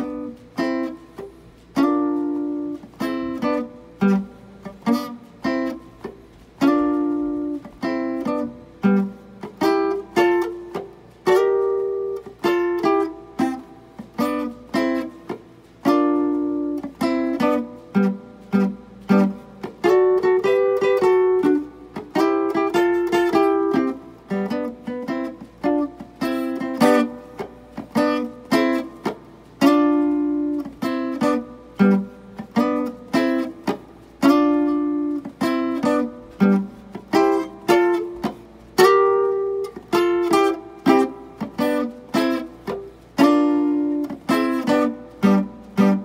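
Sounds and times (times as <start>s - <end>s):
guitar chords strummed with pick: 0.0s - 46.0s.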